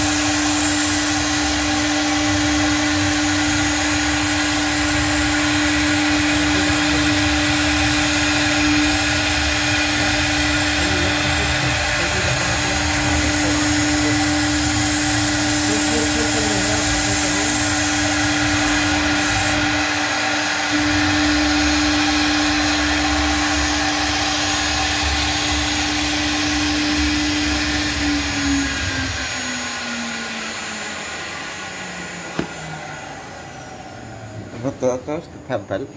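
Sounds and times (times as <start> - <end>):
bit cutting sheet: 0.0 - 33.2
router spindle whining: 0.0 - 35.9.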